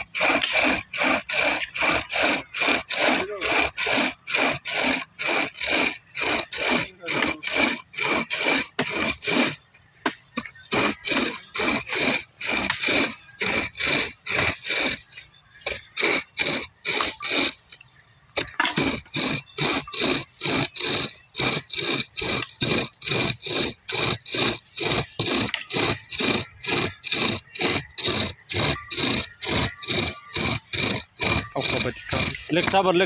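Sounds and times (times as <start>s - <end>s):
saw chain rasping through wood: 0.0s - 33.0s.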